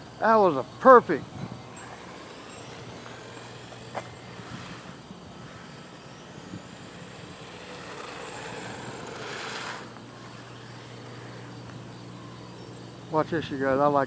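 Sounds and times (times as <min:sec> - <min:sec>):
rc truck electric motor and tyres: 0:00.0 - 0:14.0.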